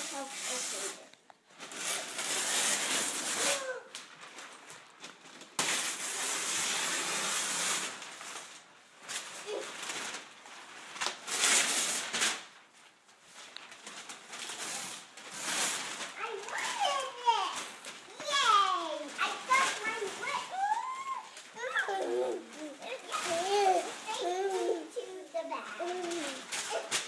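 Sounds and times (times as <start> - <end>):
wrapping paper tearing: 0.0 - 27.0.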